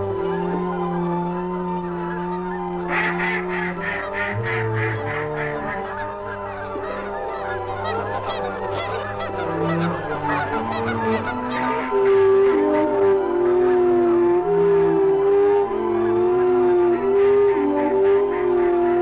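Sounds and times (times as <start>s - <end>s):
geese honking: 0.0s - 19.0s
instrumental music: 0.0s - 19.0s.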